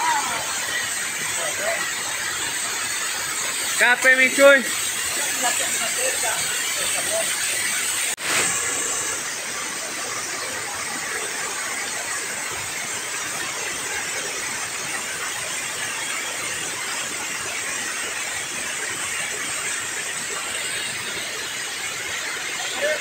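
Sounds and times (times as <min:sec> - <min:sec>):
water rushing over a weir: 0:00.0 - 0:23.0.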